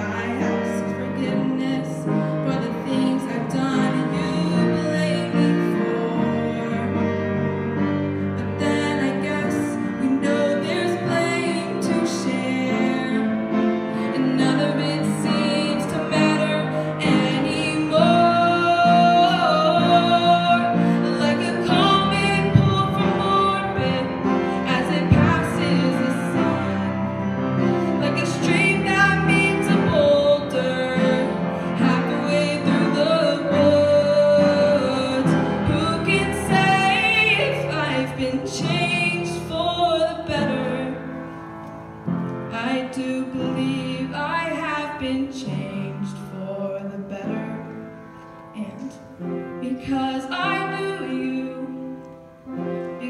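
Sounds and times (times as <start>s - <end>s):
woman singing ballad: 0.0s - 7.4s, 8.3s - 41.2s, 42.5s - 47.9s, 48.5s - 52.0s
instrumental accompaniment: 0.0s - 53.0s.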